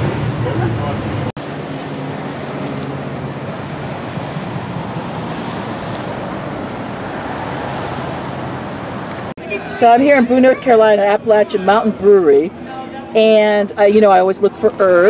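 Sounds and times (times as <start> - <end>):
traffic engines and road noise: 0.0 - 15.0.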